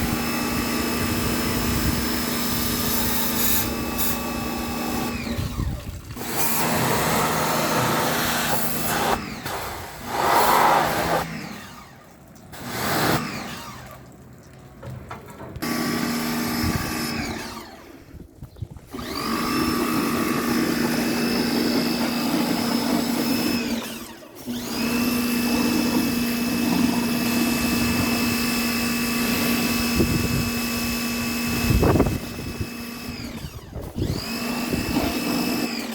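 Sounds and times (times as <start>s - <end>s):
pressure washer motor humming: 0.0s - 14.3s, 15.6s - 18.2s, 18.9s - 35.9s.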